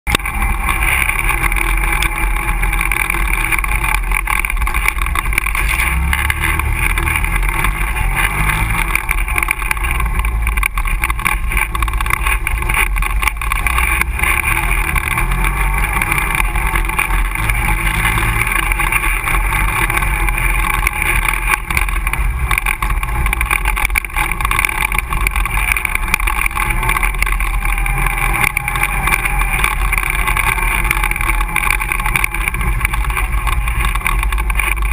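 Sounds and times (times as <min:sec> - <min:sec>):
quad engine running: 0:00.0 - 0:34.9.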